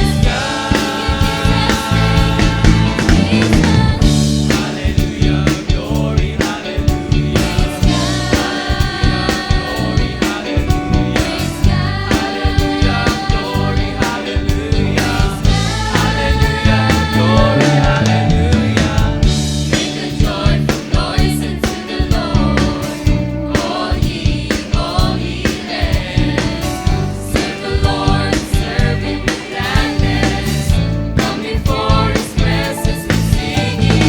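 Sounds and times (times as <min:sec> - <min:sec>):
choir singing: 0:00.0 - 0:34.0
instrumental backing with beat: 0:00.0 - 0:34.0.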